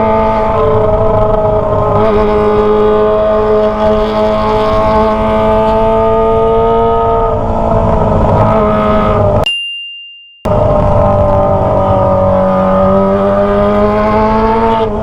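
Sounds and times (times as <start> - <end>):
motorcycle engine revving high: 0.0 - 9.4, 10.5 - 15.0.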